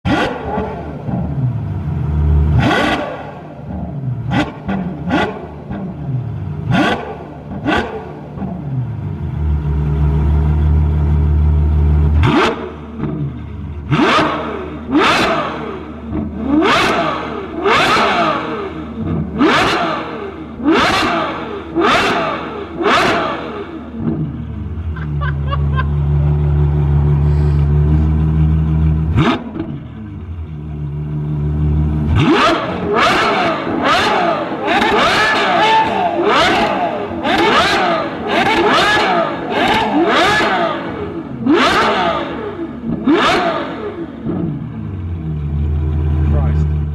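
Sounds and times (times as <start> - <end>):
sports car engine revving: 0.0 - 46.9.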